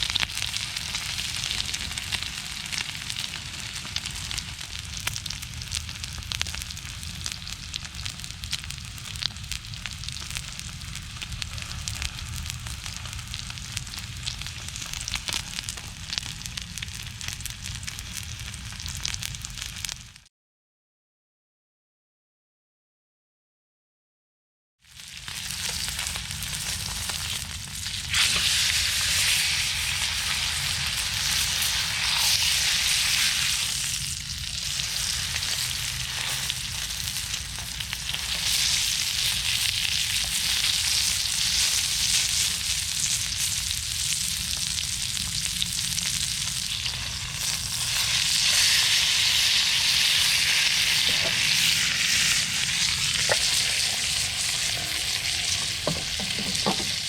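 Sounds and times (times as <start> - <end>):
steak sizzling in a frying pan: 0.0 - 20.1, 24.8 - 57.0.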